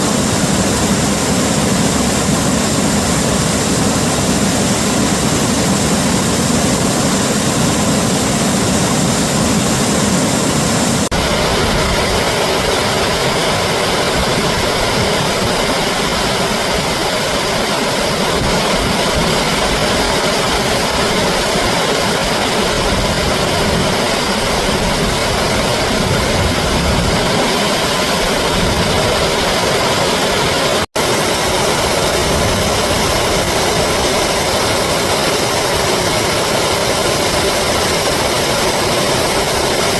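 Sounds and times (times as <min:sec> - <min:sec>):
reversed flowing water rushing: 0:00.0 - 0:39.9.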